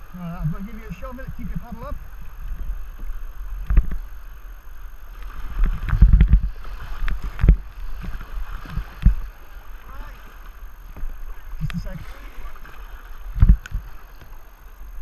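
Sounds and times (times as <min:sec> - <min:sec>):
paddle strokes in water: 0:00.0 - 0:15.0
river water rushing and splashing: 0:00.0 - 0:15.0.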